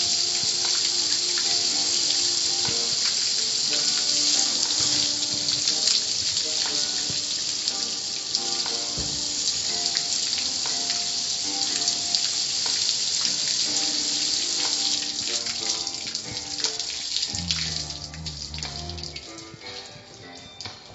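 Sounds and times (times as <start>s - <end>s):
water spray hissing: 0.0s - 19.7s.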